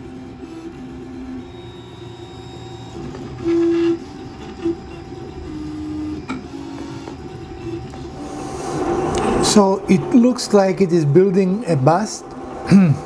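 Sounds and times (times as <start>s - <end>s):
cooling fans humming: 0.0s - 13.0s
stepper motors whining: 0.2s - 12.8s.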